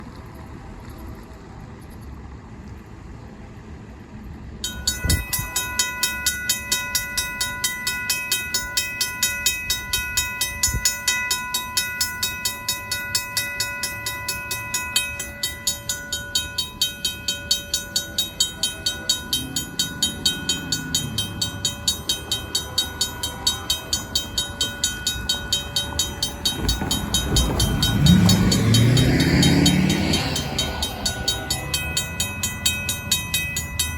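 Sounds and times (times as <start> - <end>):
railroad crossing bell ringing: 4.5 - 33.9.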